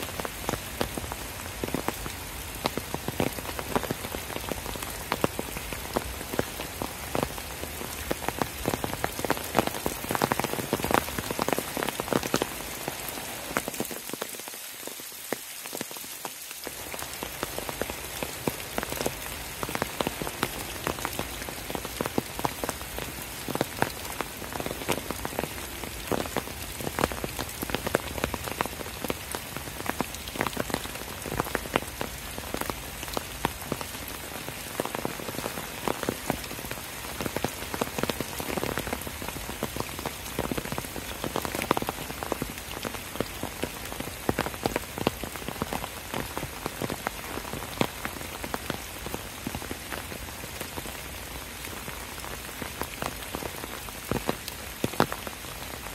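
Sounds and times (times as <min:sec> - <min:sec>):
raindrops hitting: 0:00.0 - 0:55.9
steady rain falling: 0:00.0 - 0:55.9.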